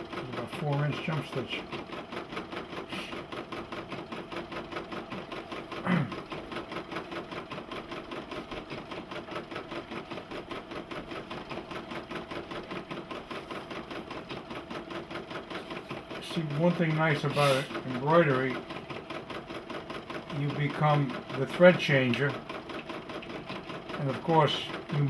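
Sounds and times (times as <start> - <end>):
motor hum: 0.0 - 21.0
embroidery machine clattering: 0.0 - 25.0.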